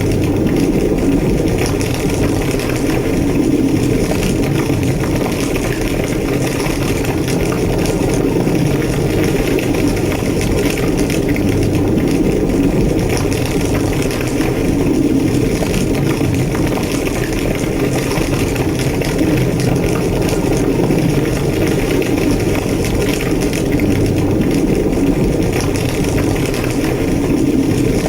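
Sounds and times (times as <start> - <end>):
large fire roaring: 0.0 - 28.0.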